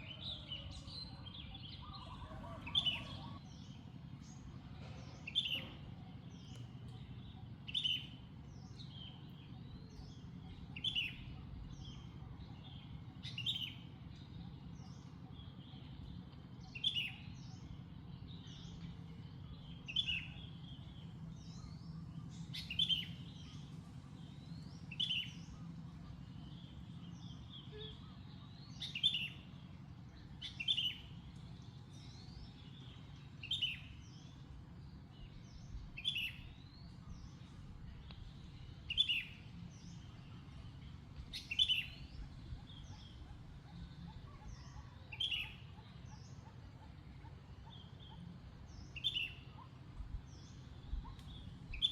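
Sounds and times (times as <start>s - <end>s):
bird chirping: 0.0s - 51.9s
low background hum: 0.0s - 51.9s.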